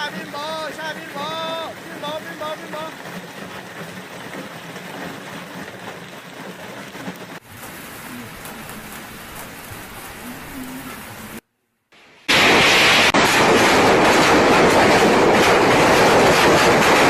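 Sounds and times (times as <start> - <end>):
heavy rain on hard surfaces: 0.0 - 11.4, 12.0 - 17.0.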